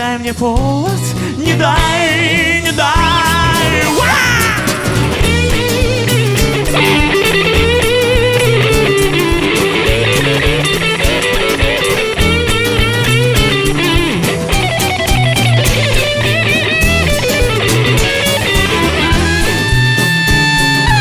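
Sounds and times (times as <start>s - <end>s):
bass guitar: 0.0s - 21.0s
drums: 0.0s - 21.0s
electric guitar: 0.0s - 21.0s
wavering melodic lead line: 1.4s - 21.0s.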